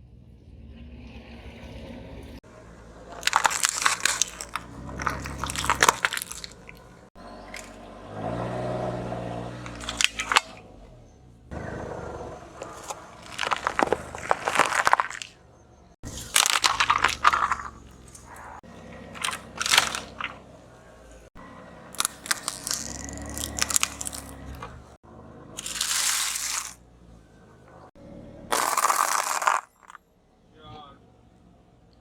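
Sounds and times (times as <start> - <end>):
objects crunching under car tyre: 2.8 - 10.8, 11.6 - 26.9, 27.6 - 30.0.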